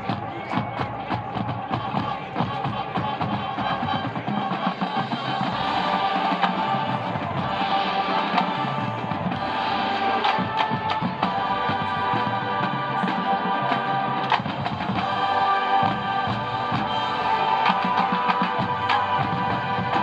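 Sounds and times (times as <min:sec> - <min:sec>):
marching band wind chords: 0:00.0 - 0:20.0.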